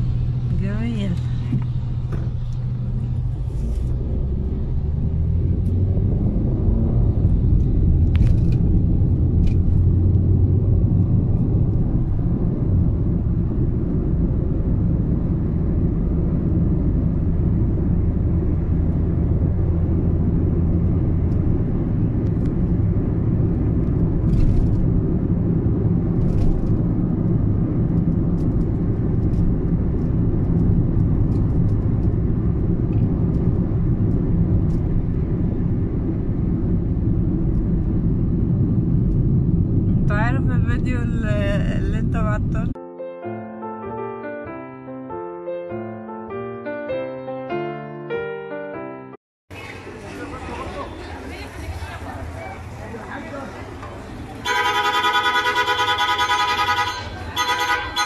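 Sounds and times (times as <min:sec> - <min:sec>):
car road rumble: 0:00.0 - 0:42.8, 0:49.5 - 0:58.0.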